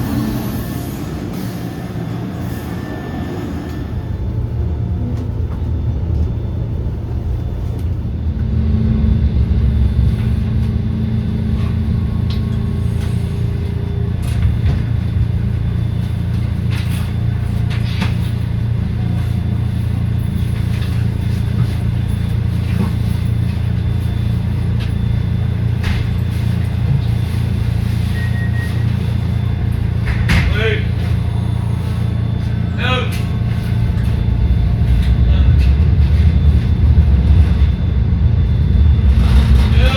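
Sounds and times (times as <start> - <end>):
traction motor hum: 0.0 - 39.9
trolley wheels rumbling on rails: 0.0 - 39.9.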